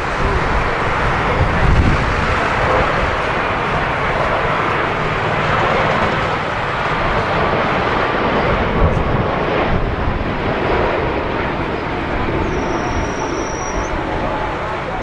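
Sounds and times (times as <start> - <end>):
jet engines rushing: 0.0 - 15.0
wind buffeting microphone: 0.0 - 15.0.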